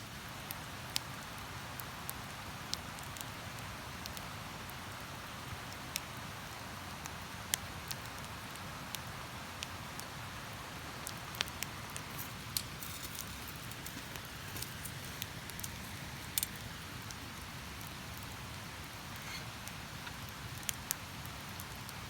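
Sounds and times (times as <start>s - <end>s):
campfire crackling and popping: 0.1s - 22.0s.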